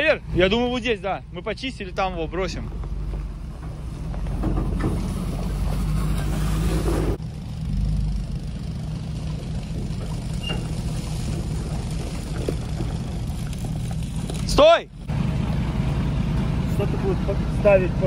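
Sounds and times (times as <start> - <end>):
truck engine running under load: 0.0 - 18.0.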